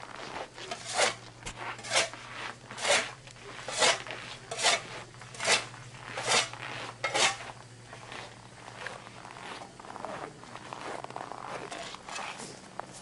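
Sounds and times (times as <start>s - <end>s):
snow and ice scraping: 0.0s - 13.0s.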